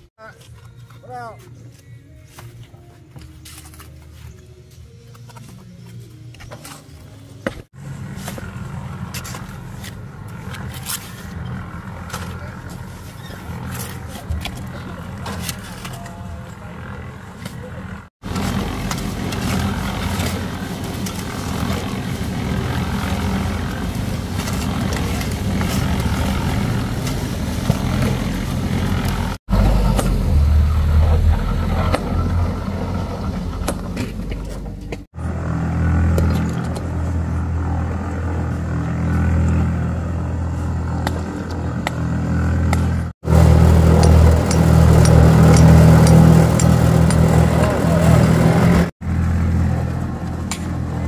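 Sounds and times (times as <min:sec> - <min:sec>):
vehicle engine running: 0:07.7 - 0:51.0.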